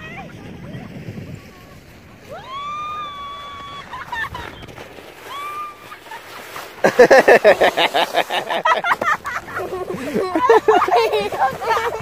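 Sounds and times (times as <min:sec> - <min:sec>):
people laughing and shrieking: 0:02.2 - 0:12.0.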